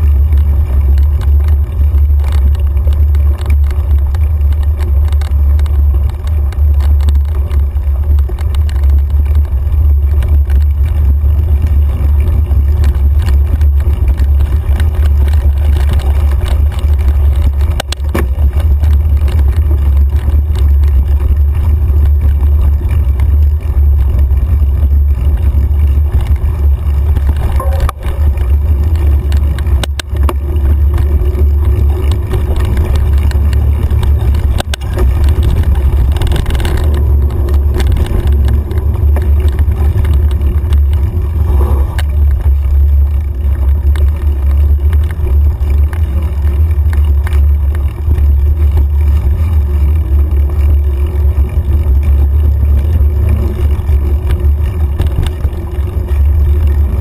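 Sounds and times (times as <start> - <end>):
bike rolling rumble: 0.0 - 57.0.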